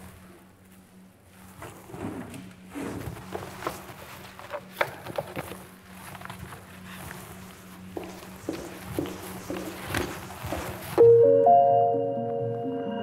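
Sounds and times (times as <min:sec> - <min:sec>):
footsteps: 0:00.0 - 0:11.2.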